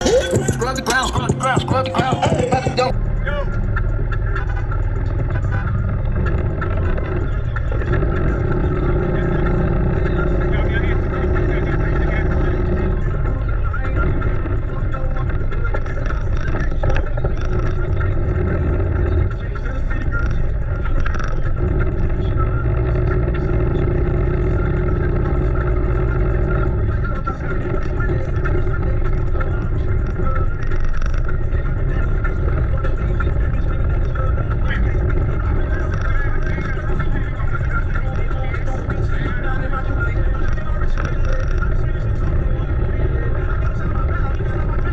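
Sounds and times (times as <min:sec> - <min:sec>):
car engine rumbling: 0:00.0 - 0:44.9.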